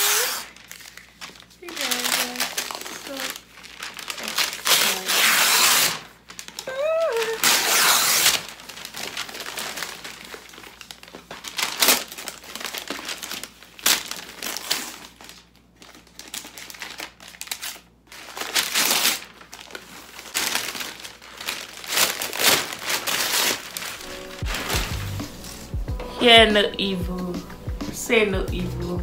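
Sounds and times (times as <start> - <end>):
paper wrapping crinkling: 0.0 - 28.3.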